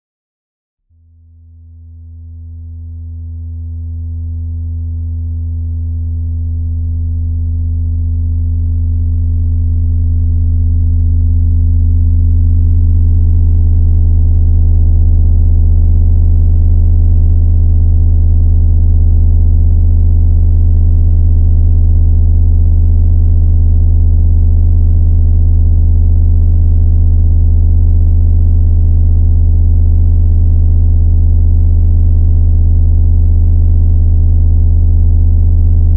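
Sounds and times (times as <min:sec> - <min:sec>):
deep electronic drone tone: 0:01.0 - 0:35.9.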